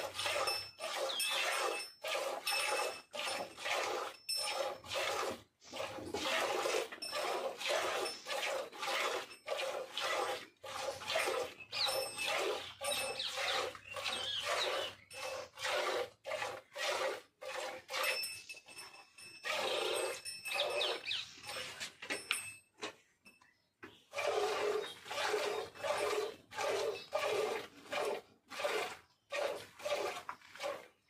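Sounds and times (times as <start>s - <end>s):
cow tongue licking rasping: 0.0s - 18.2s, 19.4s - 22.0s, 24.1s - 31.0s.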